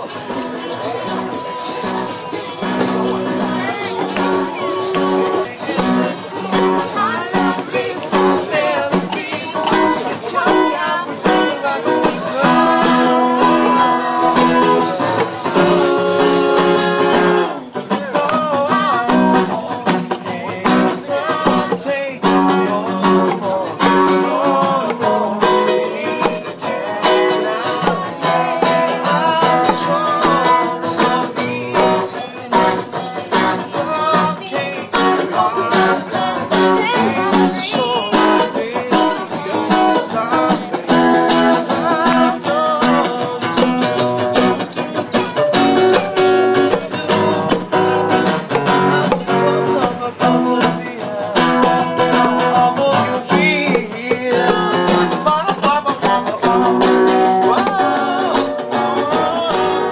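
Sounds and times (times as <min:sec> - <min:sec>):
acoustic guitar strummed and picked: 0:00.0 - 0:59.9
person singing: 0:00.0 - 0:59.9.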